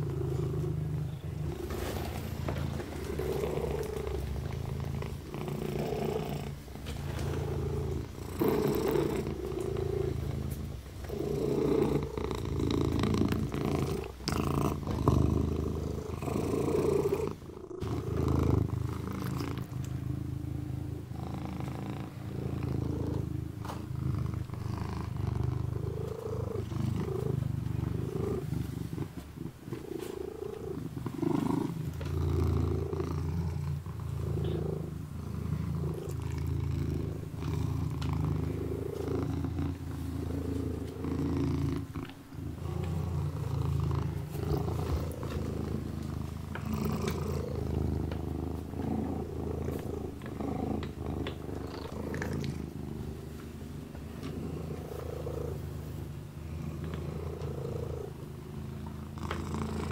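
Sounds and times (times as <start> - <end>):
kitten purring: 0.0 - 59.9.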